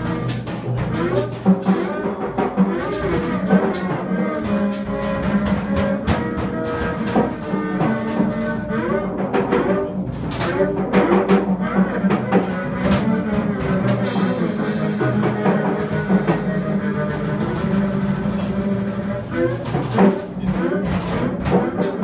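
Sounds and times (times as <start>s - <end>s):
wavering saxophone lines: 0.0s - 11.0s, 12.0s - 20.9s
double bass low note: 0.0s - 21.5s
drum and cymbal strikes: 0.0s - 22.0s.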